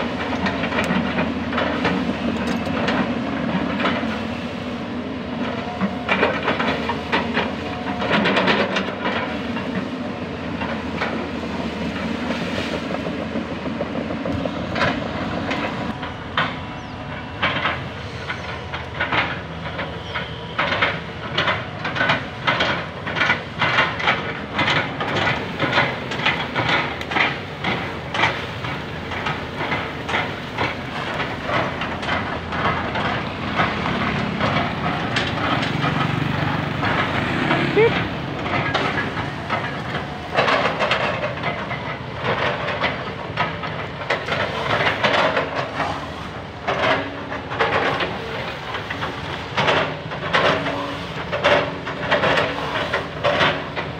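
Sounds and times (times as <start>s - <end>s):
hydraulic excavators running: 0.0s - 53.9s.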